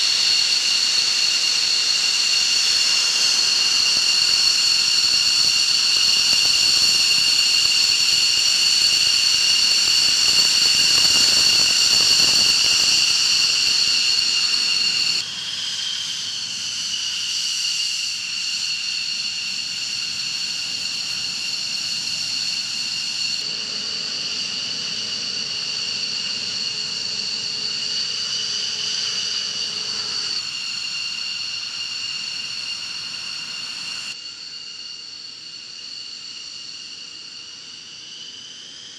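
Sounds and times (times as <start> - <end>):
jet engine whine and roar: 0.0 - 38.9.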